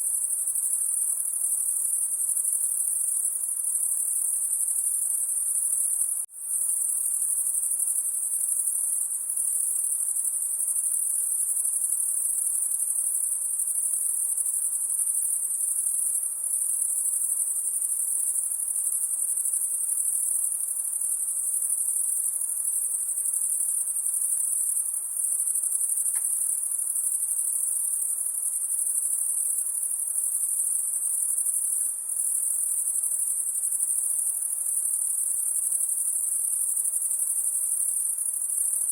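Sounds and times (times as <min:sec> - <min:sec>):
shrill insect trill: 0:00.0 - 0:38.9.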